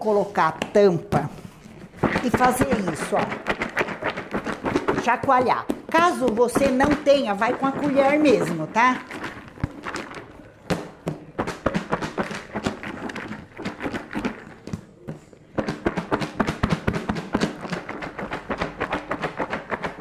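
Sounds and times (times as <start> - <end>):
popcorn rattling in plastic container: 1.8 - 14.8, 15.6 - 20.0.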